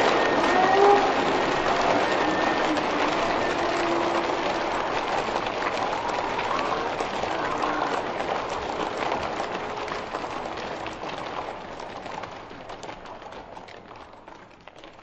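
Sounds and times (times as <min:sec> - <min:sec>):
slowed audience applause: 0:00.0 - 0:15.0.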